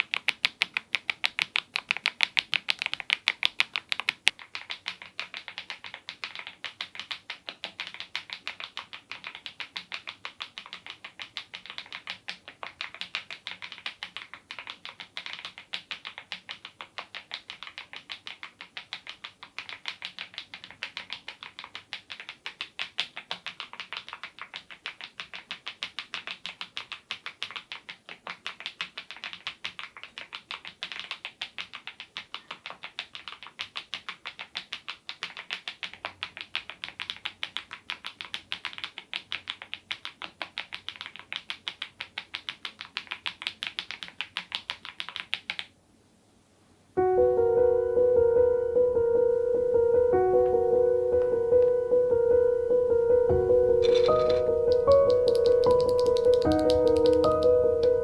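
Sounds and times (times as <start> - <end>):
fast typing on mechanical keyboard: 0.0 - 45.7, 53.7 - 58.0.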